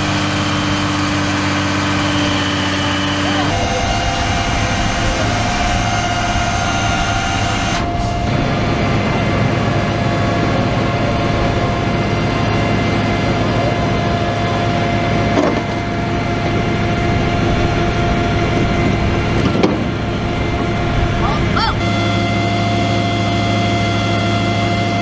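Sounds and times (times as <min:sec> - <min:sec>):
vehicle engine humming and whining: 0:00.0 - 0:25.0.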